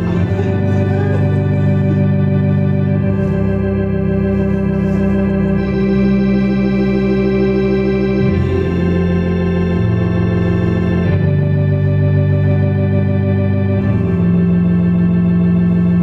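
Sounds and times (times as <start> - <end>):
slow sustained chords: 0.0 - 16.0.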